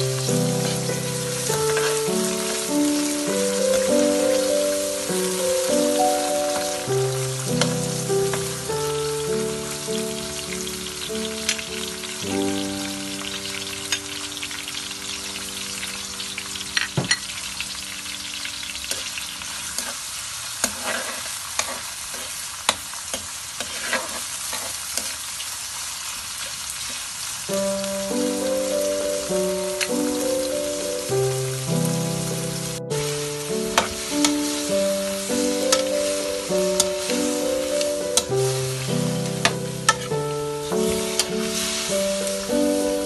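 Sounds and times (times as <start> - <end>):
vegetables sizzling in a pan: 0.0 - 43.0.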